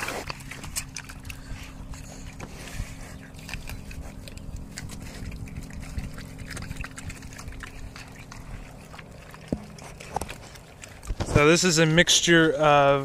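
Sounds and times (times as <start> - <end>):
pigs slurping slop: 0.0 - 13.0.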